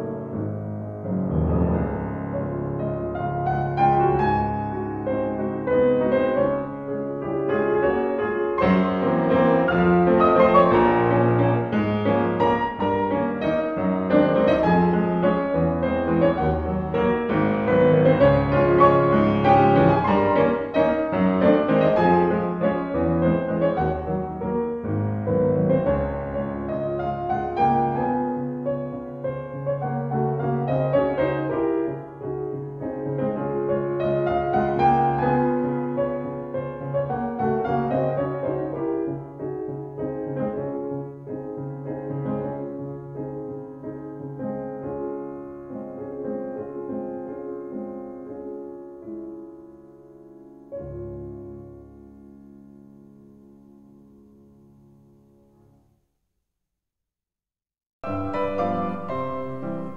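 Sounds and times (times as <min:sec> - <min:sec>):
instrumental piano music: 0:00.0 - 0:56.1, 0:58.0 - 0:59.9.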